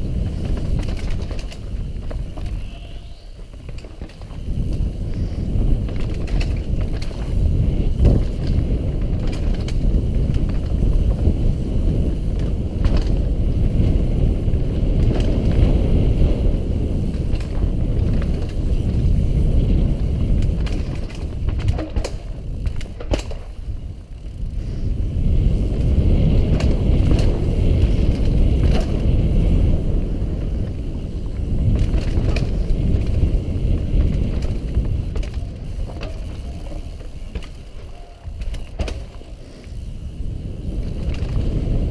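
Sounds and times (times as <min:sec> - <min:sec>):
bike rattling over bumps: 0:00.0 - 0:41.9
tyres rumbling on dirt: 0:00.0 - 0:41.9
wind on microphone: 0:00.0 - 0:41.9.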